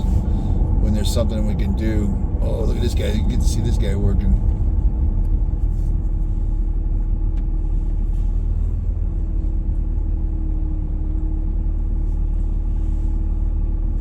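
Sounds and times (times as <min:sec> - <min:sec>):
vehicle driving on snowy road: 0:00.0 - 0:14.0.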